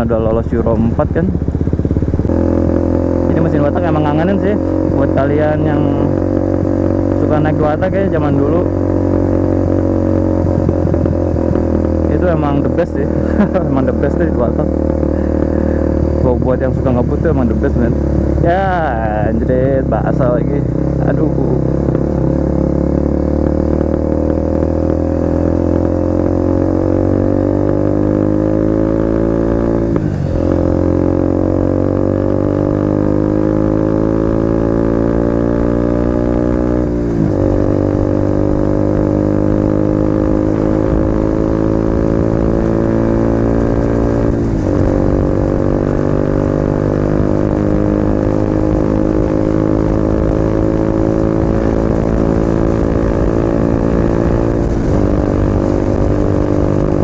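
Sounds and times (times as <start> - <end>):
motorcycle engine revving through gears: 0.0 - 57.0.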